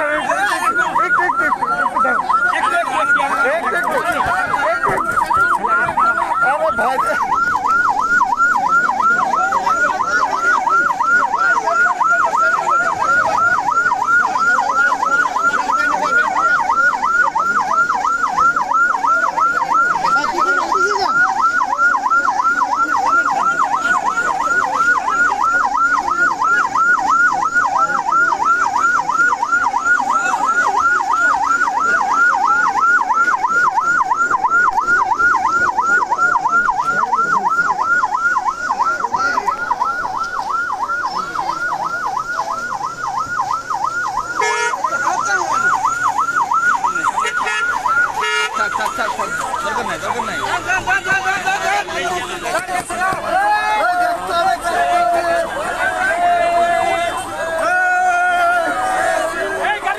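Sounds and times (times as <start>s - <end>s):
electronic siren yelp: 0.0s - 59.9s.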